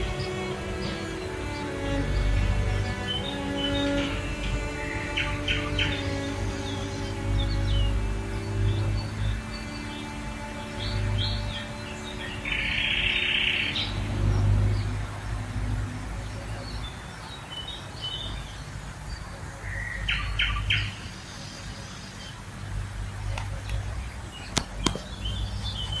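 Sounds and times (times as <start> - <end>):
songbirds singing and calling: 0.0 - 26.0.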